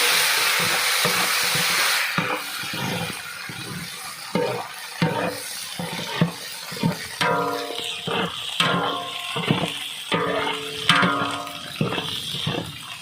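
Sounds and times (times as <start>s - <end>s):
paste sizzling in hot oil: 0.0s - 13.0s
ladle stirring in pot: 0.5s - 13.0s.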